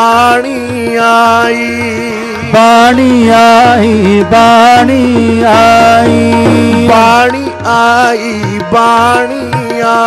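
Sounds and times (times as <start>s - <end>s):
harmonium melody: 0.0s - 10.0s
tabla drumming: 0.0s - 10.0s.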